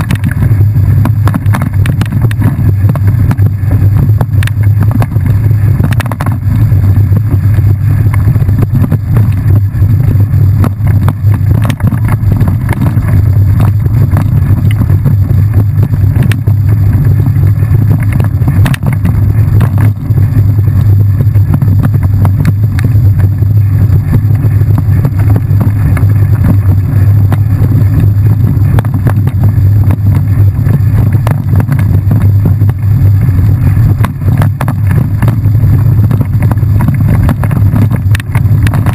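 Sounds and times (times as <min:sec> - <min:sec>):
wind buffeting rumble: 0:00.0 - 0:38.9.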